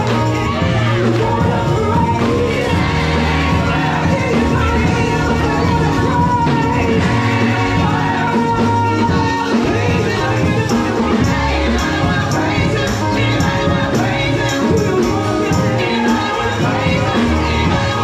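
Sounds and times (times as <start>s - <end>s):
gospel music: 0.0s - 18.0s
woman singing into microphone: 0.0s - 18.0s.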